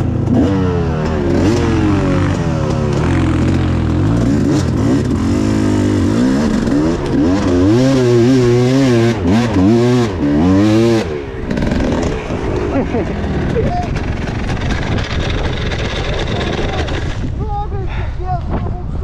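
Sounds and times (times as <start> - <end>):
motorcycle engine revving: 0.0 - 17.3.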